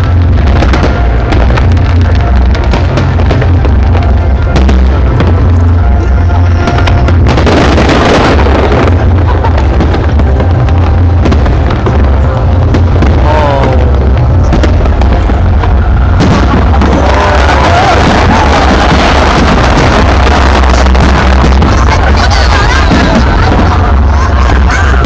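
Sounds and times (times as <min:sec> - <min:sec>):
fireworks bursts and booms: 0:00.0 - 0:25.0
low rumble: 0:00.0 - 0:25.0.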